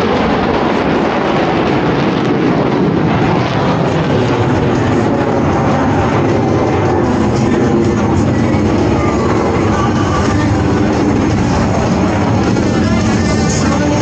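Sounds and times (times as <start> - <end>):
jets flying overhead: 0.0 - 14.0.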